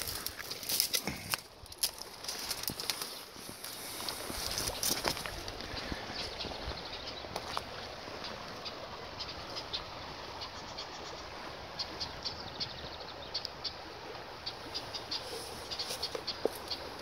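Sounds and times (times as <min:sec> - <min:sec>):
steady outdoor hiss: 0:00.0 - 0:17.0
small birds chirping: 0:01.3 - 0:17.0.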